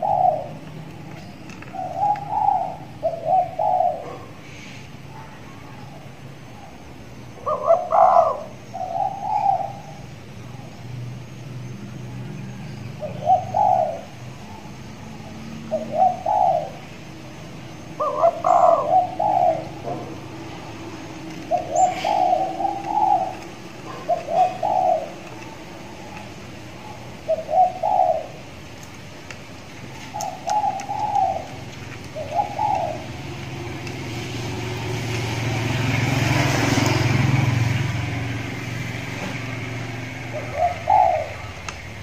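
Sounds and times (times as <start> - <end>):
dove cooing: 0.0 - 5.4, 7.4 - 10.7, 13.0 - 17.2, 17.9 - 28.7, 29.8 - 37.6, 39.4 - 42.0.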